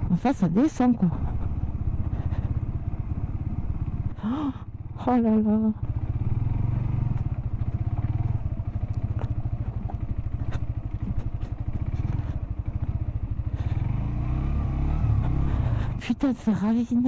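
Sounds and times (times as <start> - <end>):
motorcycle engine throbbing: 0.0 - 17.0.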